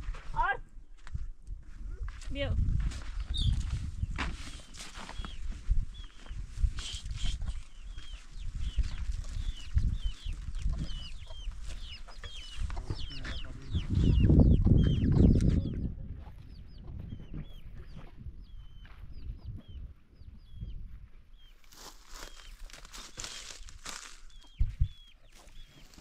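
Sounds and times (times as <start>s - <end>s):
chickens peeping: 3.1s - 26.0s.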